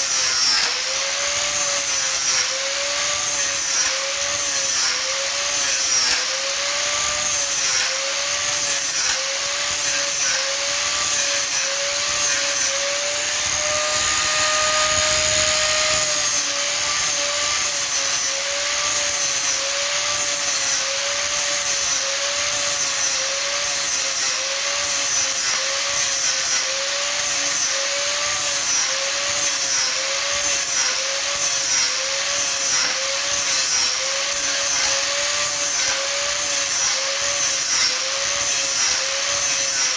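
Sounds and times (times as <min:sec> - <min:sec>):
electric power tool cutting wood: 0:00.0 - 0:39.9.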